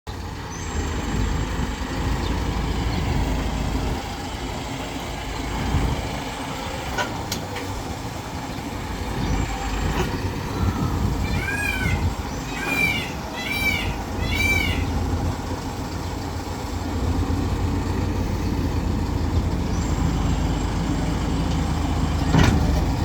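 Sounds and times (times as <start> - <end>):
truck engine rumbling: 0.1 - 23.0.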